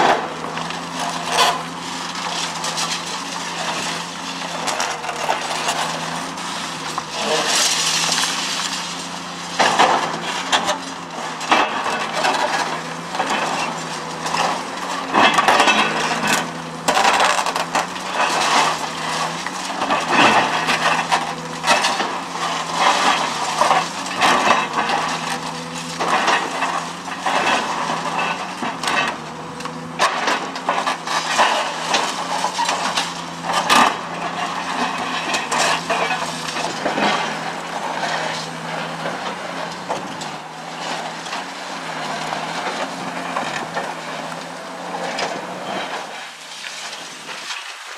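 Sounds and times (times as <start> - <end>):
concrete crunching and cracking: 0.0 - 47.9
excavator engine hum: 0.0 - 47.9.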